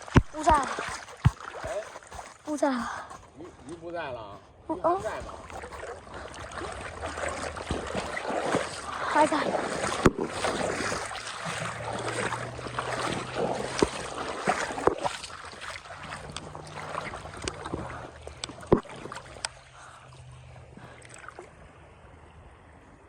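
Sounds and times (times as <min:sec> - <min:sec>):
river water rushing: 0:00.0 - 0:03.2, 0:04.8 - 0:22.3.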